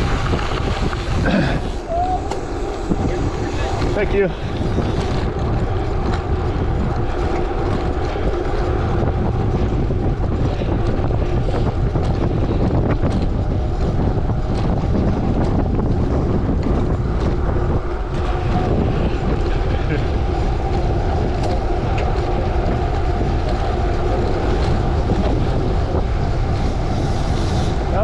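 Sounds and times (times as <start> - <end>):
bike clicks and rattles: 0.0 - 28.0
tyres rumbling on gravel: 0.0 - 28.0
wind buffeting microphone: 0.0 - 28.0.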